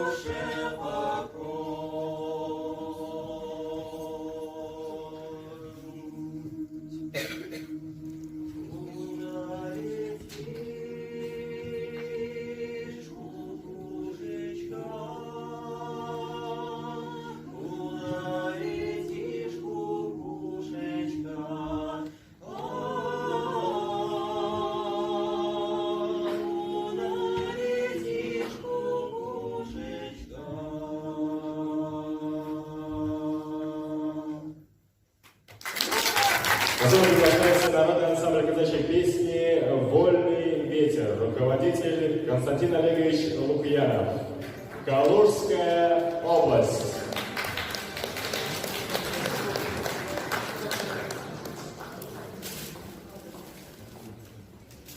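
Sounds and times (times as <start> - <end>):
vocal ensemble singing in harmony: 0.0 - 35.0, 36.5 - 52.4.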